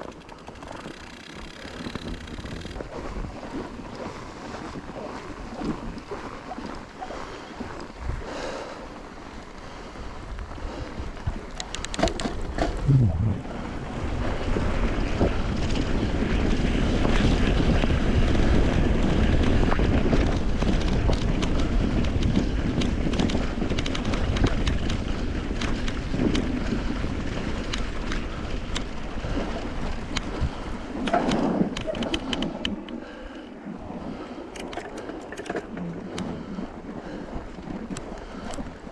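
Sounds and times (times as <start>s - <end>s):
wind on microphone: 0.0s - 8.3s, 10.0s - 38.9s
bike tires crunching through snow: 0.0s - 38.9s.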